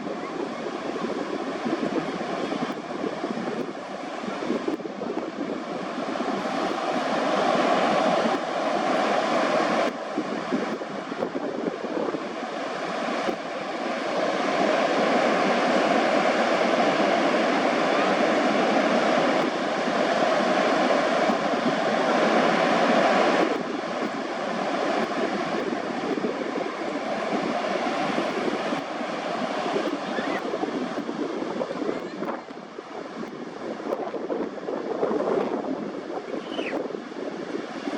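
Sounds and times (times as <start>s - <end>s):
rushing outdoor noise: 0.0s - 37.9s.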